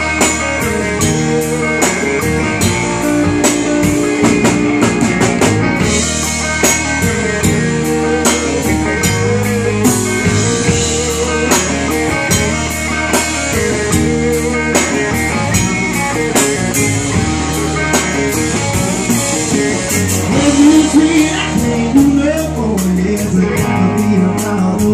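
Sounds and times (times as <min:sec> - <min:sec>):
drum kit beat: 0:00.0 - 0:24.9
electric guitars: 0:00.0 - 0:24.9.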